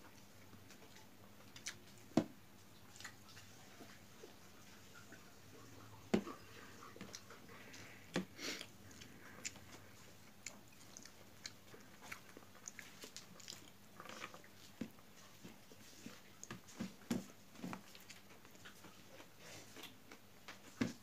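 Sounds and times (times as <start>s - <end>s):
fingers kneading rice: 0.0s - 21.0s
wet chewing: 0.1s - 21.0s.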